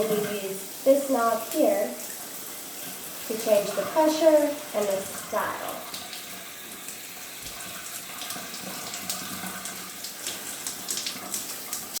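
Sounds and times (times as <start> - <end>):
shower water spraying: 0.0 - 12.0.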